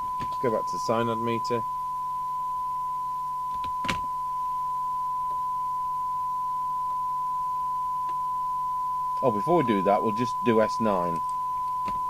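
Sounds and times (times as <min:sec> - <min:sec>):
low hum: 0:00.0 - 0:12.0
steady test tone: 0:00.0 - 0:12.0.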